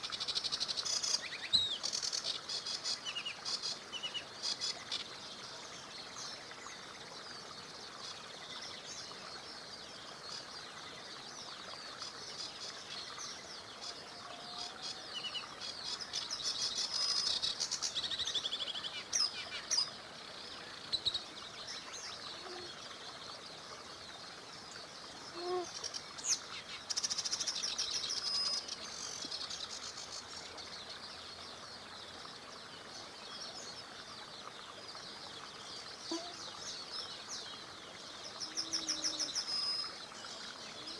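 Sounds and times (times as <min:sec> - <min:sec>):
flowing river: 0:00.0 - 0:40.9
songbirds singing and chirping: 0:00.0 - 0:40.9.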